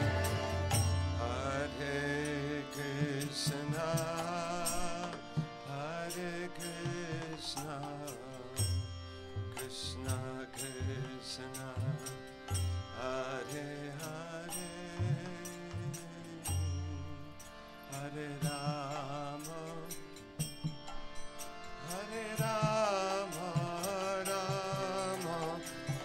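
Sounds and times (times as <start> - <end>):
devotional chanting: 0.0 - 26.0
harmonium drone: 0.0 - 26.0.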